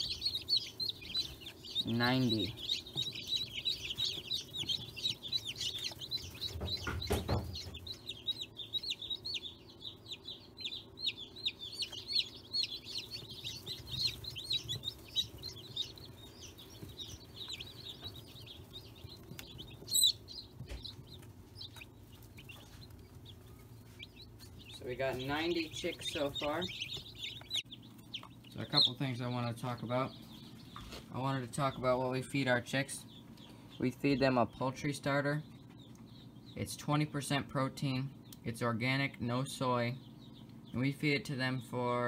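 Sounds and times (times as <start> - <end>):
chicks peeping: 0.0 - 42.0.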